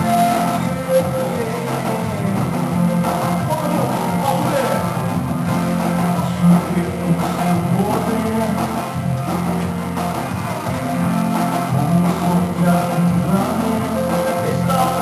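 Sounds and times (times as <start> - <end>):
guitar: 0.0 - 15.0
worship band music: 0.0 - 15.0.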